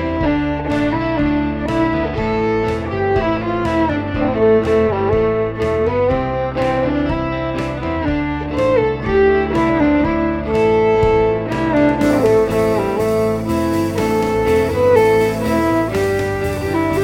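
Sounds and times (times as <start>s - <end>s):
fiddle melody: 0.0s - 17.0s.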